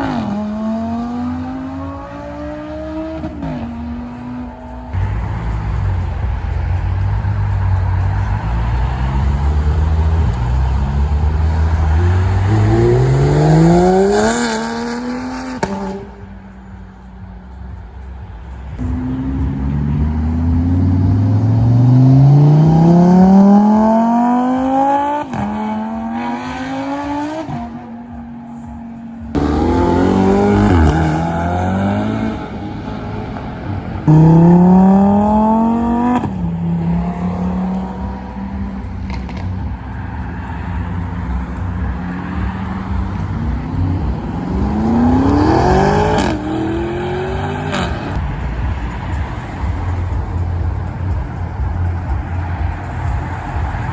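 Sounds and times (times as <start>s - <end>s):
car engines accelerating hard: 0.0s - 53.9s.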